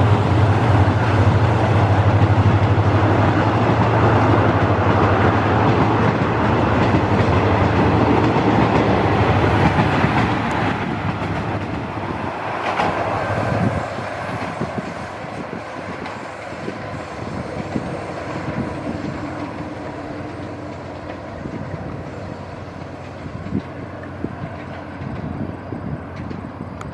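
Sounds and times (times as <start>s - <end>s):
train rumbling past: 0.0s - 26.9s
wheels clicking over rail joints: 0.0s - 26.9s.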